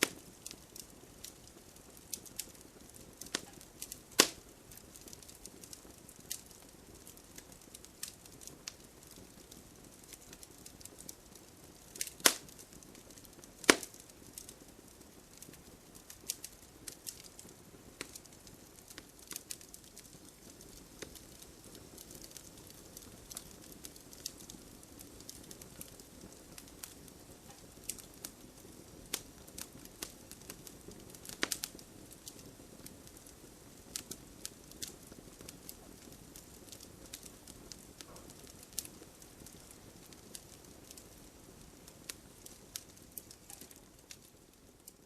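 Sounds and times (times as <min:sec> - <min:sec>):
burning wood popping and snapping: 0:00.0 - 0:45.0
low steady fire hiss: 0:00.0 - 0:45.0.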